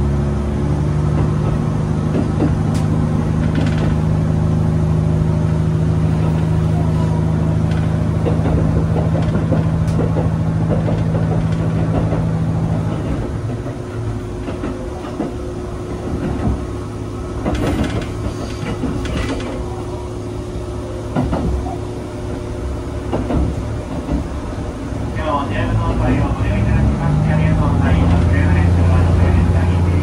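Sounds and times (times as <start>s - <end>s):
diesel railcar engine hum: 0.0s - 30.0s.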